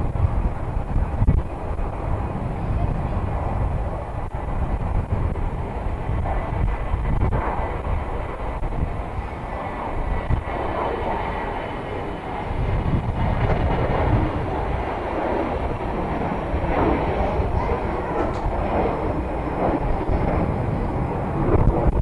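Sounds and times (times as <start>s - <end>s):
jet engine rumble: 0.0s - 22.0s
wind buffeting microphone: 0.0s - 22.0s.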